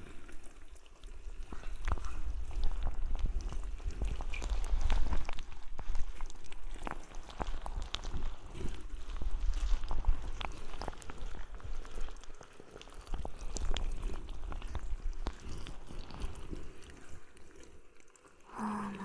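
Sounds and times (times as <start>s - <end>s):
crackling clicks: 1.5s - 18.2s.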